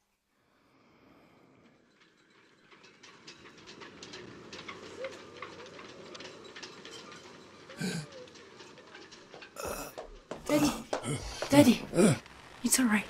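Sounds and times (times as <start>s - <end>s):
low city rumble: 0.4s - 13.0s
faint clicks and rattles: 1.4s - 13.0s.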